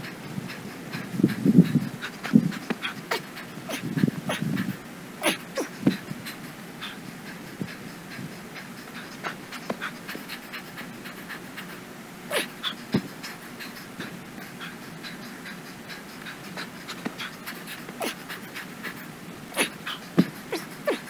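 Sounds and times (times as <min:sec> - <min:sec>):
loud gasps: 0:00.0 - 0:21.0
man panting: 0:00.0 - 0:21.0.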